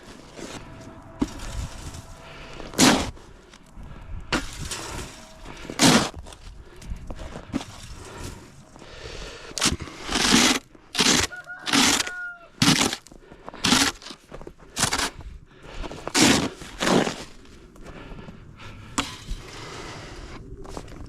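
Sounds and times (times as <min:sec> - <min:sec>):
packed snow crunching and scraping: 0:00.0 - 0:21.0.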